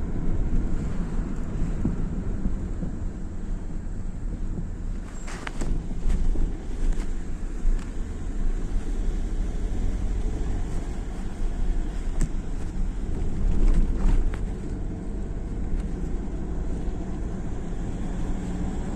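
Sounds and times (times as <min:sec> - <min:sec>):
vehicle engine and road noise: 0:00.0 - 0:18.9.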